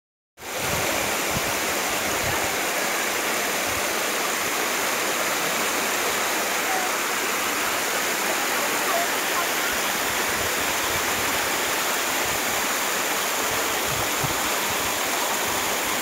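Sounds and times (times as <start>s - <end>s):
river rushing over rocks: 0.4s - 16.0s.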